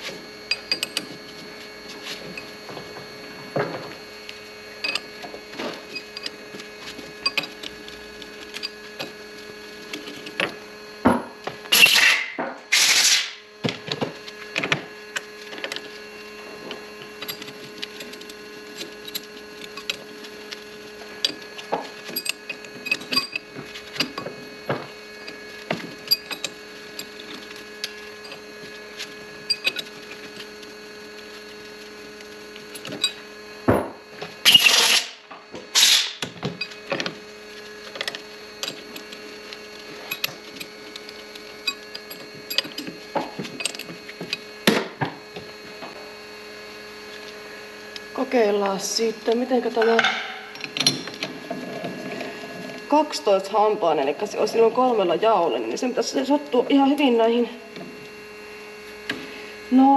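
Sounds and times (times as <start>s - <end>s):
machine motor hum: 0.0s - 59.9s.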